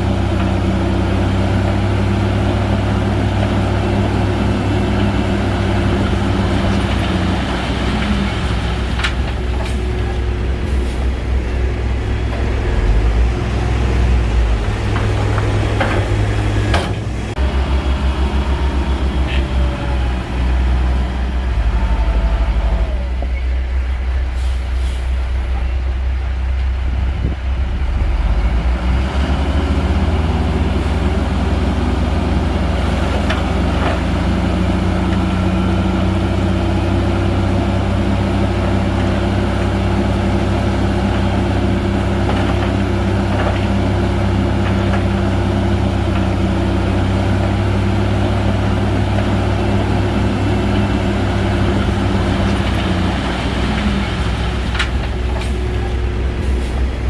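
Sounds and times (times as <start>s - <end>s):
bulldozer diesel engine humming: 0.0s - 57.0s.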